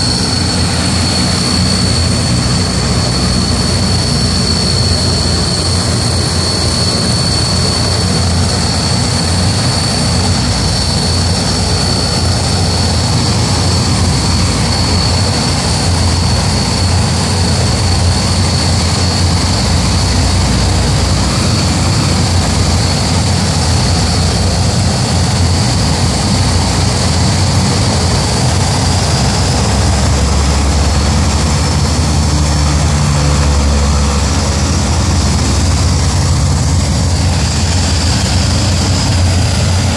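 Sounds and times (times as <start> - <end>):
propeller drone: 0.0 - 39.9
turboprop engines whining: 0.0 - 39.9.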